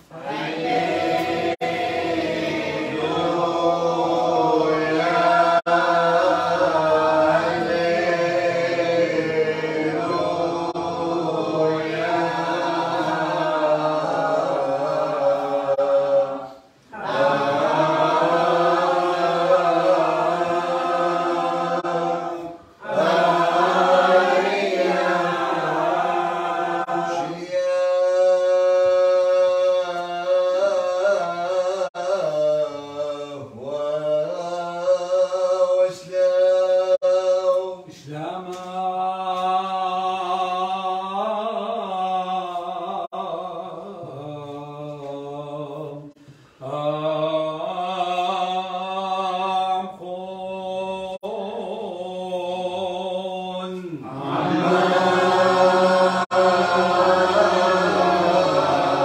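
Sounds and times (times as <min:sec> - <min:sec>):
man chanting: 0:02.9 - 0:59.0.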